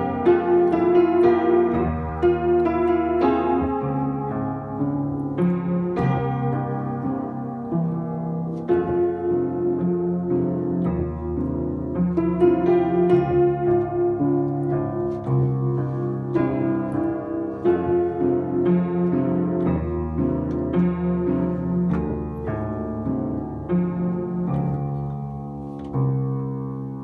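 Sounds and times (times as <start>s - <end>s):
piano slow melody: 0.0s - 27.0s.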